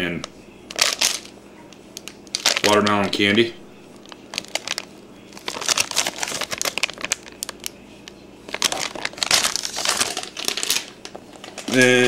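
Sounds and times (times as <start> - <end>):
plastic bags crinkling: 0.7 - 1.3, 1.9 - 2.9, 4.0 - 12.0.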